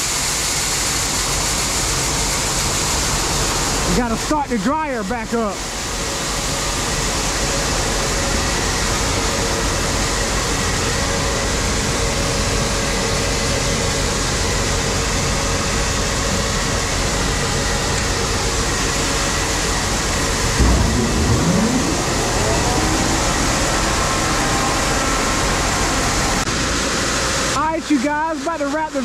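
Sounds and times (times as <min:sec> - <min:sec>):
fan rushing loudly: 0:00.0 - 0:29.0.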